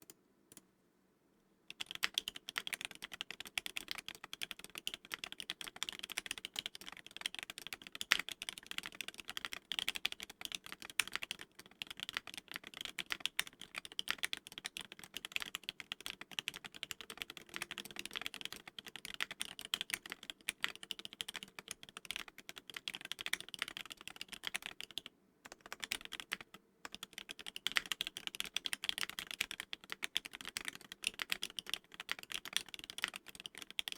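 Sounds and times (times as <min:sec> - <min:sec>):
mechanical keyboard typing: 0:01.7 - 0:33.9.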